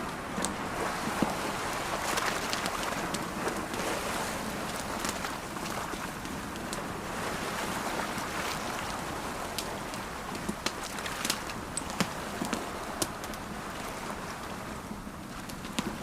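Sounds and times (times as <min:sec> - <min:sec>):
campfire crackling: 0:00.0 - 0:16.0
ocean waves washing in and out: 0:00.0 - 0:16.0.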